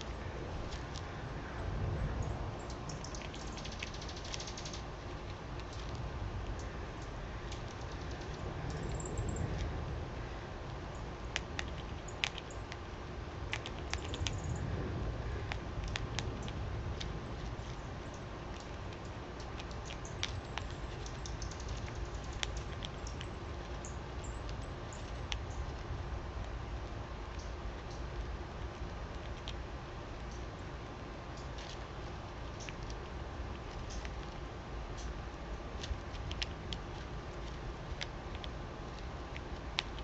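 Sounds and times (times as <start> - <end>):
animals pecking seed: 0.0 - 40.0
steady low rumble: 0.0 - 40.0.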